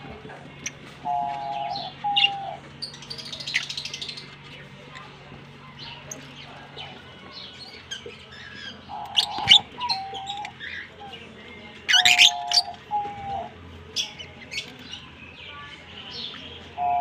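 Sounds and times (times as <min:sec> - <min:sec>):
lovebirds chirping: 0:00.6 - 0:17.0.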